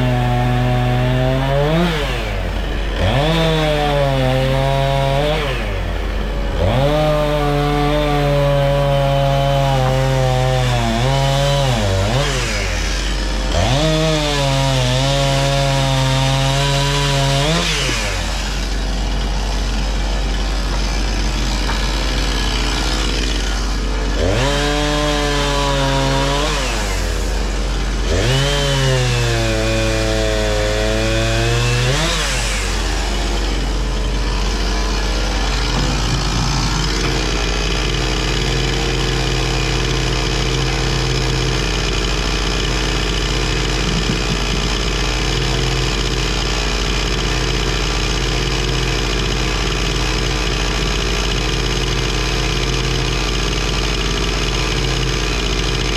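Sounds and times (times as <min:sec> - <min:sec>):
chainsaw cutting firewood: 0:00.0 - 0:55.9.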